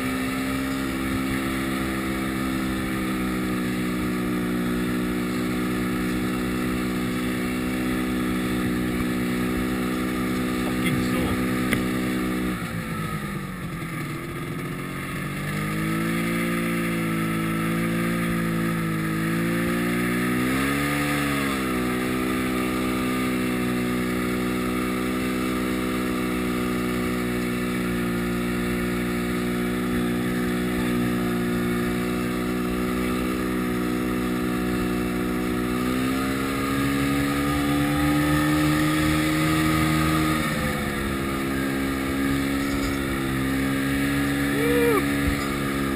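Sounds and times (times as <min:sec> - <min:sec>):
snowmobile engine running: 0:00.0 - 0:45.9.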